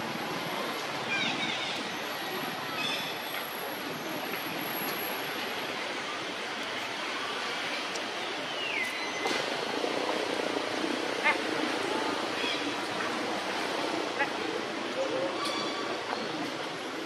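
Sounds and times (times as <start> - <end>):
rushing outdoor background noise: 0.0 - 17.0.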